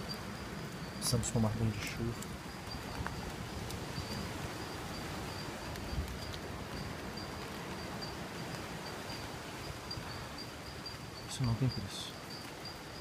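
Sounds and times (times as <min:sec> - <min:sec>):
high insect trill: 0:00.0 - 0:13.0
rain falling: 0:00.0 - 0:13.0.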